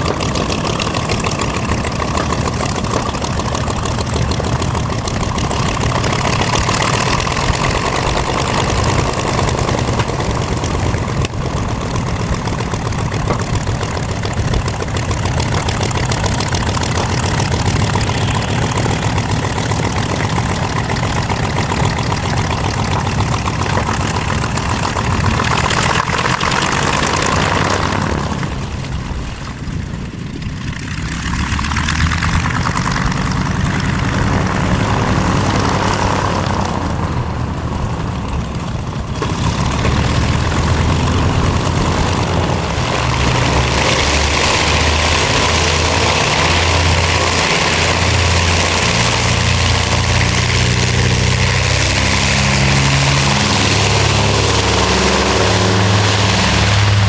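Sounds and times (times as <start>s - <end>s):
propeller plane engines running: 0.0s - 57.0s.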